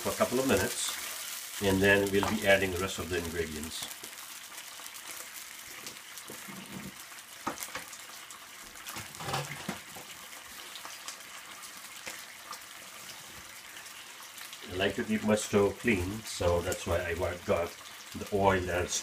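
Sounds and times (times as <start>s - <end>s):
sauce sizzling in a pan: 0.0s - 19.0s.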